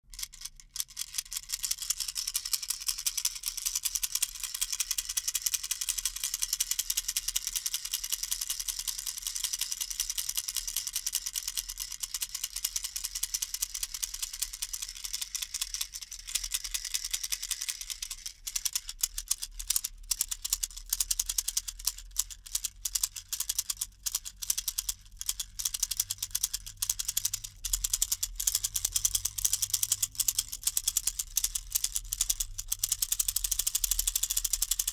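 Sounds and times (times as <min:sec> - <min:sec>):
baby rattle shaken: 0:00.0 - 0:34.9.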